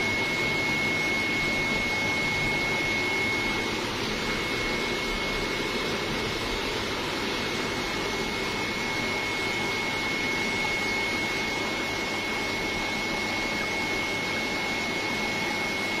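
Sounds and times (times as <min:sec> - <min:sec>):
aquarium air and water hiss: 0:00.0 - 0:16.0
high steady whine: 0:00.0 - 0:16.0.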